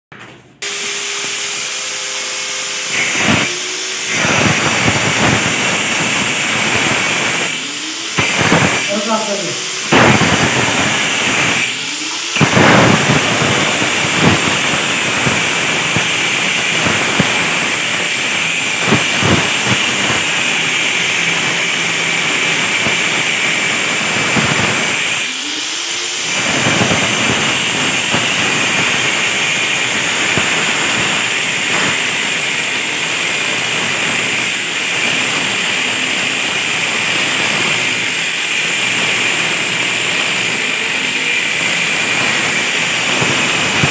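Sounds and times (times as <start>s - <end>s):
angle grinder cutting brick: 0.1s - 43.9s.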